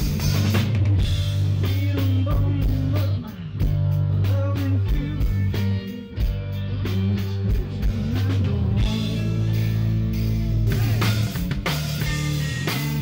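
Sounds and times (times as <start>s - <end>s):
bass guitar: 0.0s - 13.0s
drum kit beat: 0.0s - 13.0s
electric guitar: 0.0s - 13.0s.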